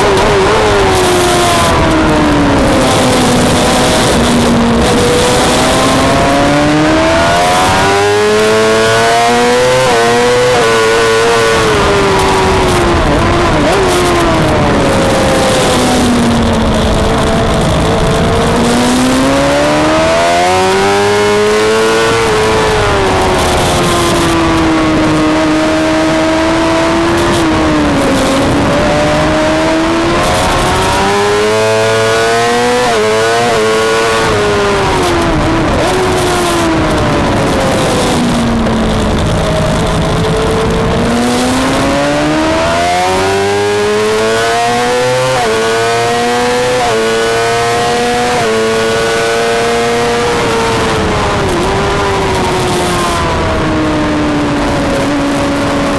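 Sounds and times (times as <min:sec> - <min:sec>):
motorcycle engine racing: 0:00.0 - 0:55.9.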